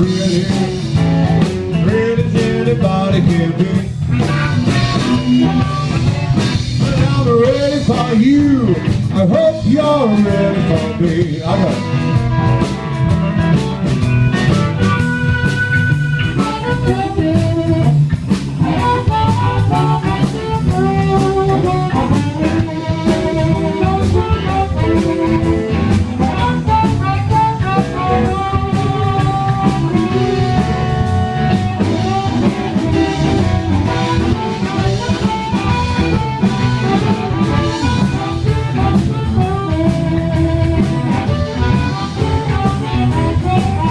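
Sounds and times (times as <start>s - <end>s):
live blues band playing: 0.0s - 43.9s.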